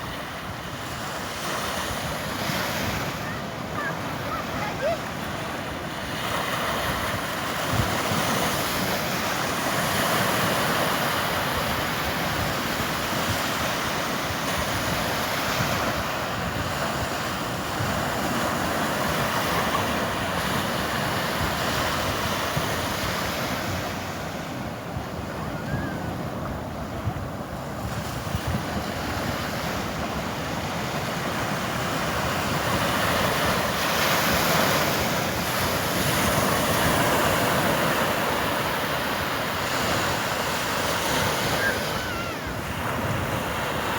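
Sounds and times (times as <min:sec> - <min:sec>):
sea waves washing onto shore: 0:00.0 - 0:43.9
wind on microphone: 0:00.0 - 0:43.9.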